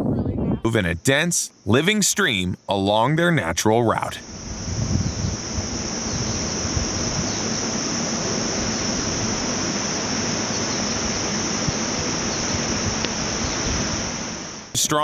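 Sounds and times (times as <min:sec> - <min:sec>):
high-pitched insect chorus: 0:02.2 - 0:14.7.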